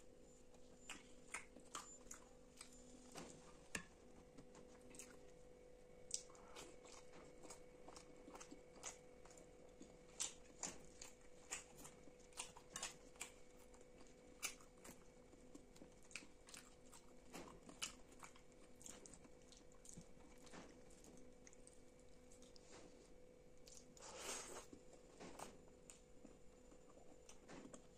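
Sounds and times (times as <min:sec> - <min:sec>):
close chewing and mouth sounds: 0:00.5 - 0:27.9.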